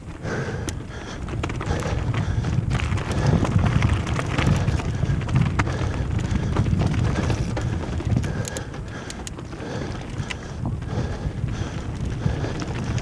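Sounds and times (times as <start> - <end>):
bike clicks and rattles: 0.0 - 13.0
bike tyres rolling on rock: 0.0 - 13.0
wind buffeting microphone: 0.0 - 13.0.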